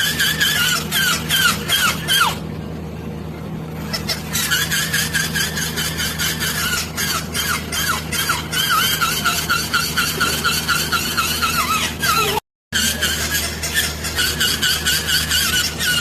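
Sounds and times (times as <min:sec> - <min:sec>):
squeaky toy squeaking: 0:00.0 - 0:02.4, 0:03.8 - 0:16.0.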